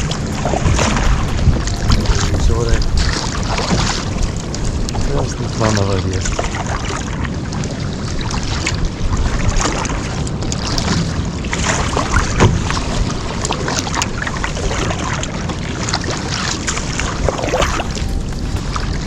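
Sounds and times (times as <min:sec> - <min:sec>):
sea water splashing: 0:00.0 - 0:19.0
wind noise on microphone: 0:00.0 - 0:19.0.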